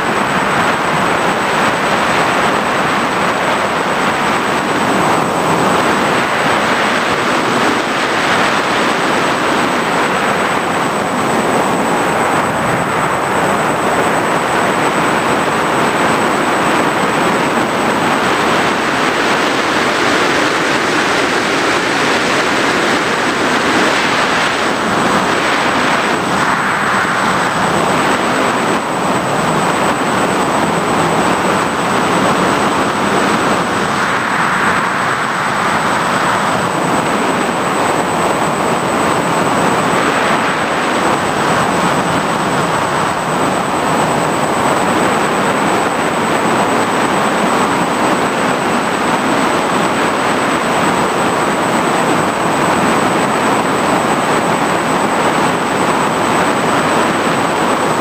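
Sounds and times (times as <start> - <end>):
drone propeller and wind rush: 0.0 - 58.0
thin high whine: 0.0 - 58.0.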